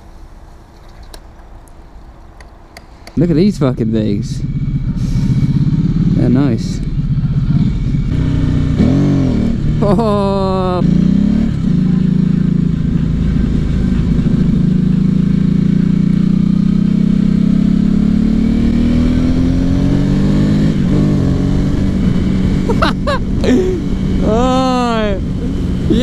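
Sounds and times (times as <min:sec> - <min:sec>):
motorcycle engine accelerating: 0:03.2 - 0:26.0.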